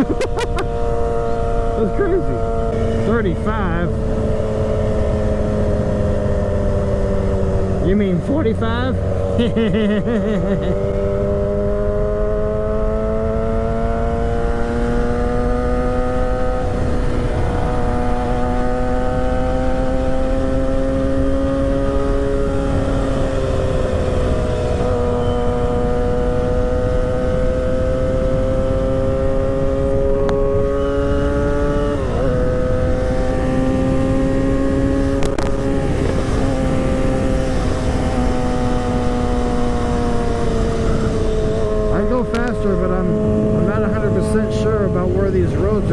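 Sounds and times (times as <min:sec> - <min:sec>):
low wind rush: 0:00.0 - 0:45.9
motorcycle engine cruising: 0:00.0 - 0:45.9.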